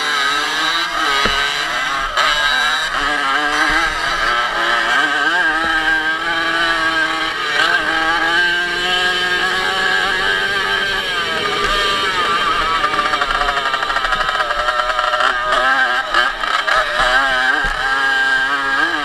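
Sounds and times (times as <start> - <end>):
two-stroke moped engine revving: 0.0 - 19.0.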